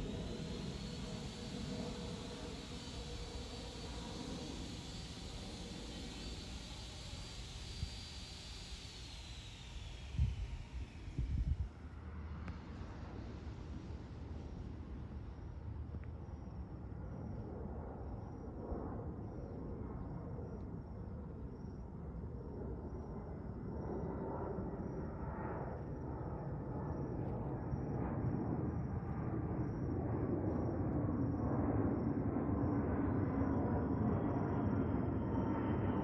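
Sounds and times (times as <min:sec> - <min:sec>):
jet airliner passing overhead: 0:00.0 - 0:36.0.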